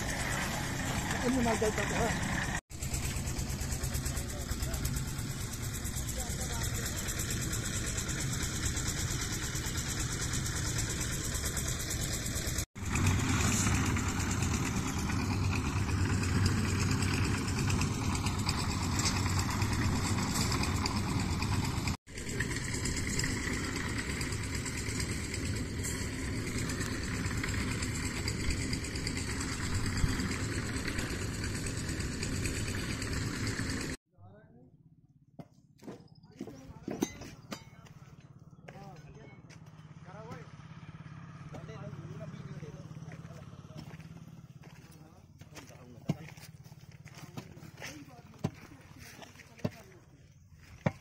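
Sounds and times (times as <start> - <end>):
machine engine running: 0.0 - 34.0, 38.2 - 51.0.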